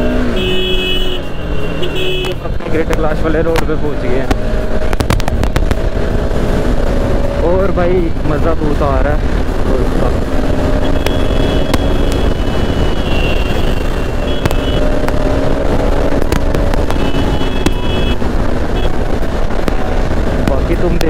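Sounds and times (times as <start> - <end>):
motorcycle engine cruising: 0.0 - 21.0
wind rush on microphone: 1.7 - 21.0.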